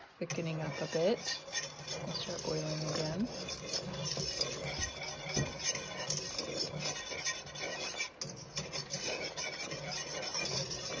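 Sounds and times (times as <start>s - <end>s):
wire whisk scraping a metal pan: 0.2s - 11.0s.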